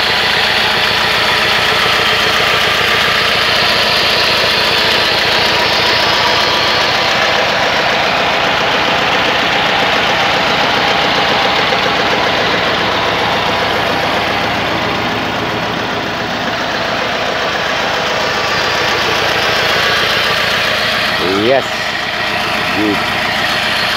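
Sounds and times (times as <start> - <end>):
diesel tractor engine running: 0.0 - 23.9.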